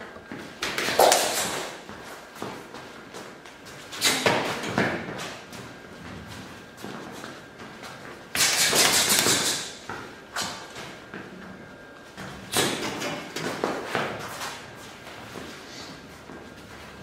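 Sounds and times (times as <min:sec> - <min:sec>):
footsteps on rubber floor: 0:00.2 - 0:08.2, 0:09.8 - 0:17.0.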